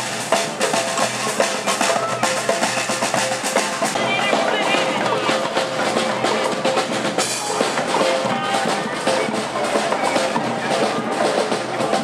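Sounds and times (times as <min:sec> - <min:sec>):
snare and bass drums: 0:00.0 - 0:12.0.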